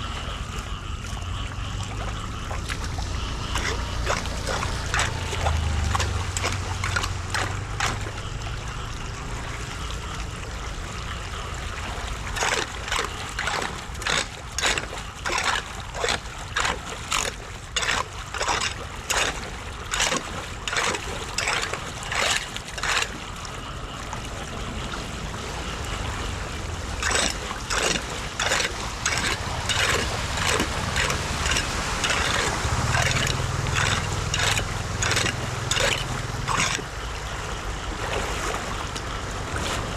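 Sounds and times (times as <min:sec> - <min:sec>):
floodwater running and gurgling: 0:00.0 - 0:39.9
rhythmic splashing strokes: 0:00.0 - 0:39.9.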